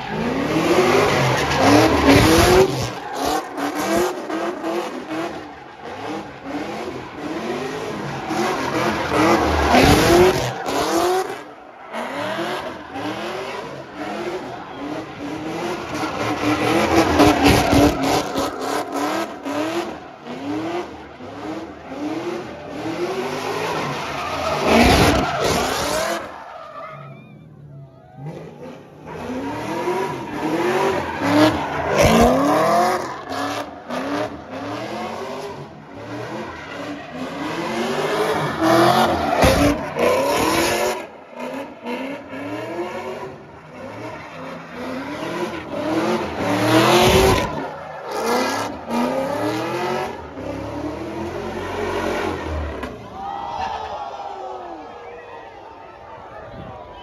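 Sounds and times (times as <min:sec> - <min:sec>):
car engine revving: 0:00.0 - 0:27.0, 0:28.1 - 0:53.2.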